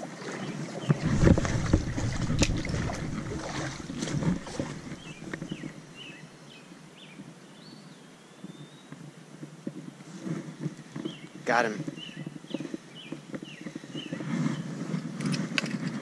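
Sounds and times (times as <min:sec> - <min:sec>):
wind rumbling on microphone: 0:00.7 - 0:06.2, 0:08.4 - 0:16.0.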